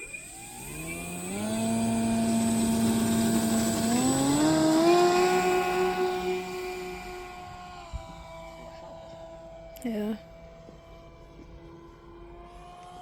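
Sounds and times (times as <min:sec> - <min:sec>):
electric model plane motor whining: 0:00.0 - 0:13.0.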